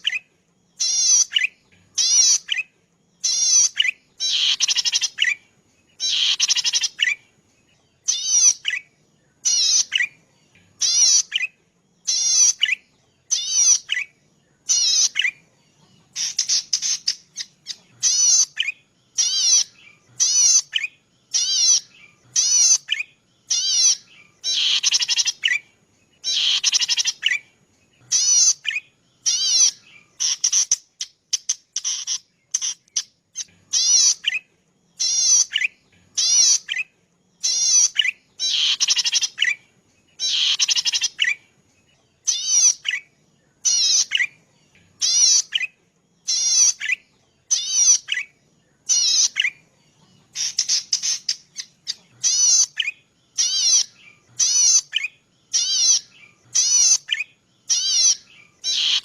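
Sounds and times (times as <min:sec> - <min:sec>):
warbler singing: 0:00.0 - 0:59.0.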